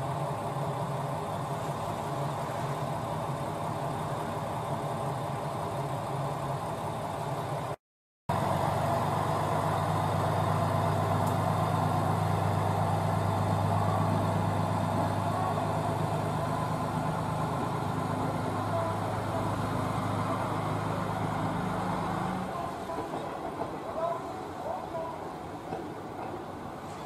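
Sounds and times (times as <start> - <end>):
diesel railcar engine humming: 0.0 - 27.0.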